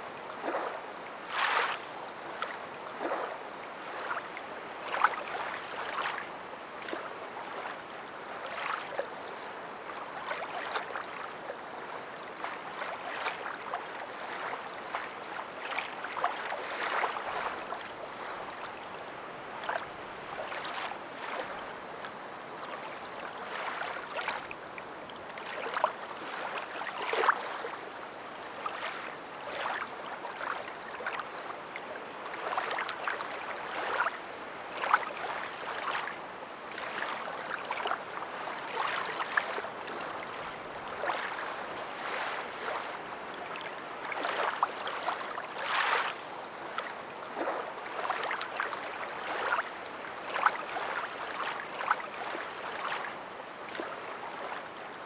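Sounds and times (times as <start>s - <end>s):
water lapping and splashing: 0.3s - 9.3s, 9.9s - 55.0s.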